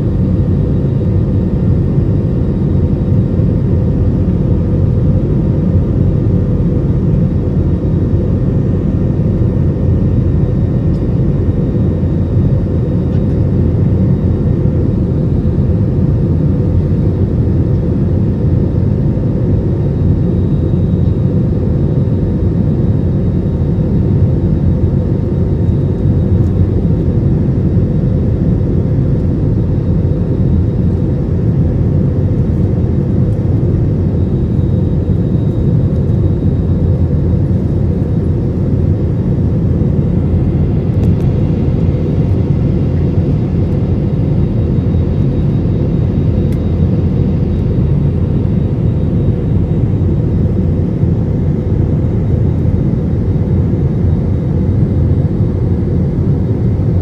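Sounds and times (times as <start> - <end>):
jet cabin engine roar: 0.0 - 57.0.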